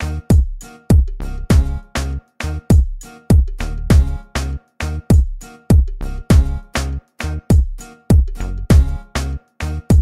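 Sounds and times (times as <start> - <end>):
music with punchy drum beat: 0.0 - 10.0.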